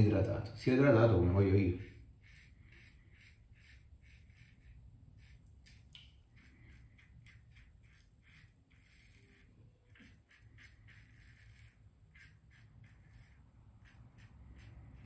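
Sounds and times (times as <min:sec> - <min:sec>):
razor scraping stubble: 0:01.2 - 0:15.0.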